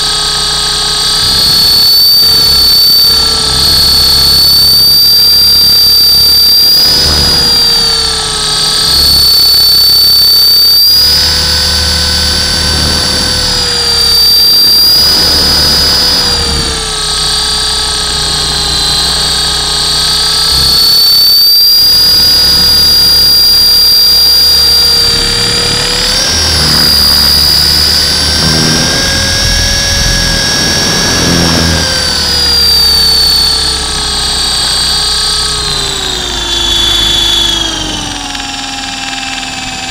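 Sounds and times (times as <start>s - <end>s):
model helicopter rotor whine: 0.0s - 39.9s.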